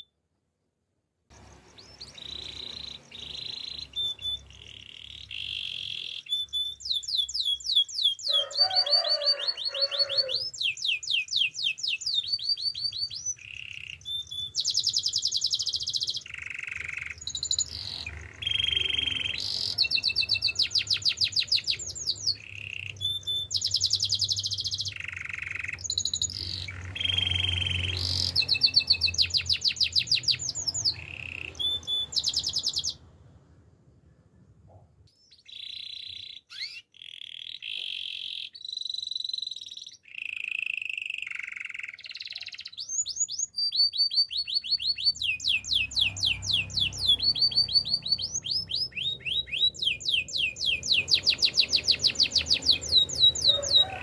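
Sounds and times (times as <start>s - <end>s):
canary singing trills: 1.3s - 33.4s, 34.4s - 54.0s.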